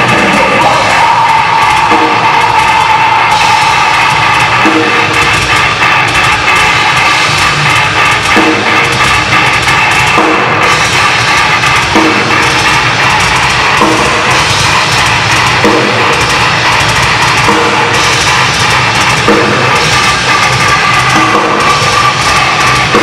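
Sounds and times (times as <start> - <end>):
heavy metal band playing: 0.0 - 23.0
loud drum kit: 0.0 - 23.0.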